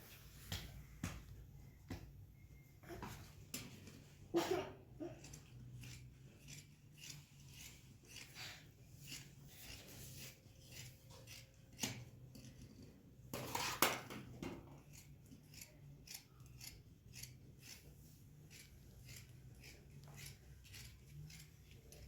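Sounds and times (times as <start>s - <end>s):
scissors cutting cloth: 3.6s - 13.9s, 14.6s - 22.0s.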